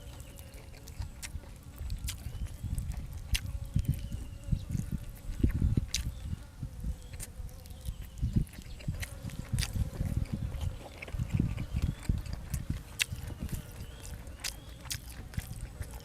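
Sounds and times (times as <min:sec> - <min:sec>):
person chewing and slurping: 0:00.0 - 0:06.2, 0:07.0 - 0:16.0
wet mouth noises: 0:00.0 - 0:16.0.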